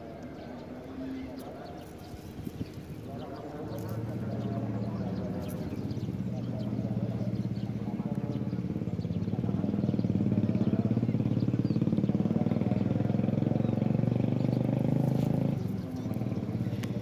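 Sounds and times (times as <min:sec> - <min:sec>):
small engine running: 0:01.1 - 0:17.0.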